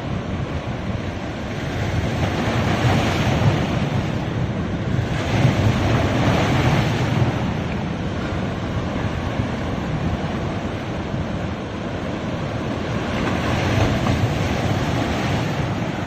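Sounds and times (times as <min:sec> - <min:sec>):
sea waves breaking on a beach: 0:00.0 - 0:16.0
wind rumbling on microphone: 0:00.0 - 0:16.0.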